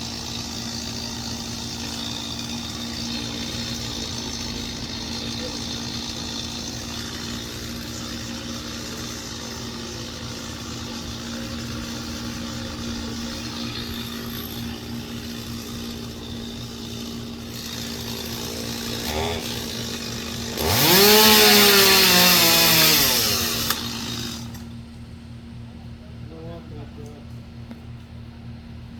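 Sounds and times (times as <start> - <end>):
chainsaw revving: 0.0 - 24.7
machinery humming: 0.0 - 25.0.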